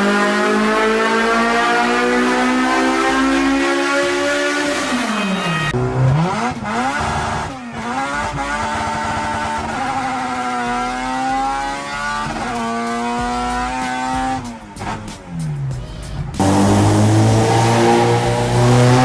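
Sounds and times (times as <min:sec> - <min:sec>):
car engine revving hard: 0:00.0 - 0:15.4, 0:16.4 - 0:19.0.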